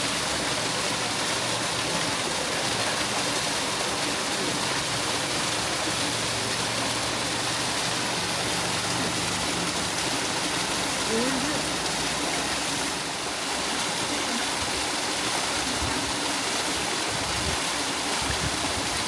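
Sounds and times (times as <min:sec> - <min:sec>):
water rushing down a cascade: 0:00.0 - 0:19.0.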